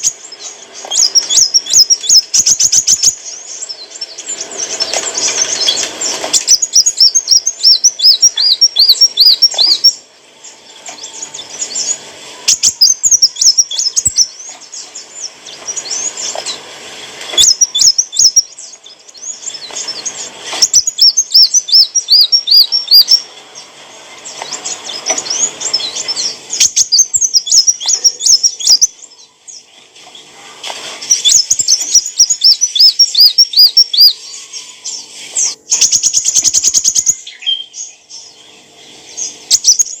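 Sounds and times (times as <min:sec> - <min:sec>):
sunbird chirping: 0:00.0 - 0:40.0.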